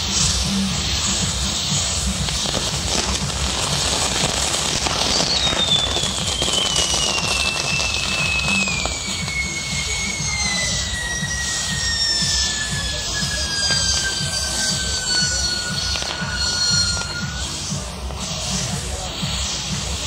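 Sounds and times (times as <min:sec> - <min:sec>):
firework whistle sliding down: 0:00.0 - 0:20.0
fireworks crackling: 0:00.0 - 0:20.0.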